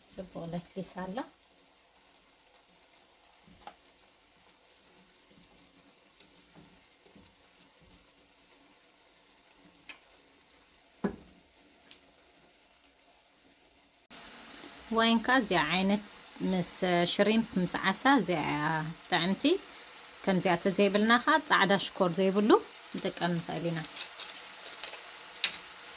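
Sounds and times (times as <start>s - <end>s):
shrimp sizzling in a pan: 0.0s - 25.9s.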